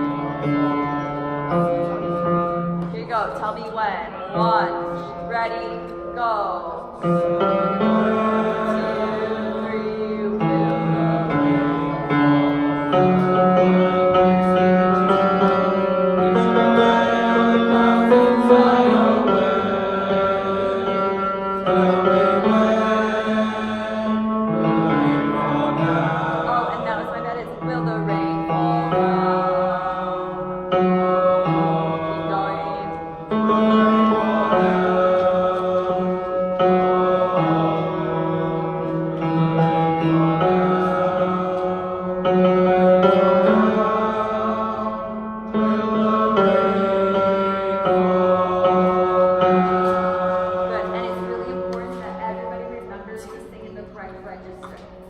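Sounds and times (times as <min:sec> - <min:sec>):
choir singing sustained chords: 0:04.1 - 0:53.8.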